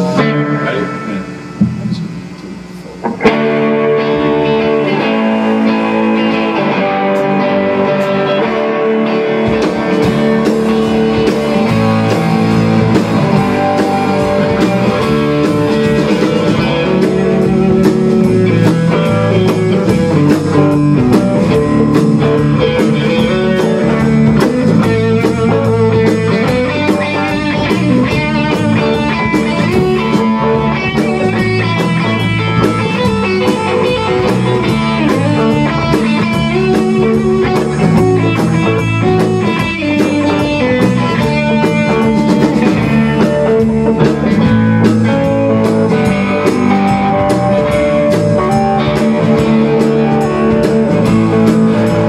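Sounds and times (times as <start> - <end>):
drum kit with cymbals: 0.0 - 52.0
electric guitars strumming chords: 0.0 - 52.0.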